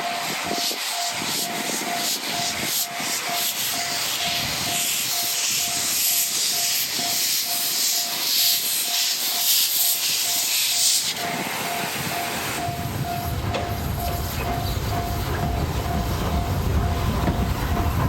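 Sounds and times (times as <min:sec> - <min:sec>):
train wheels rushing on rails: 0:00.0 - 0:18.0.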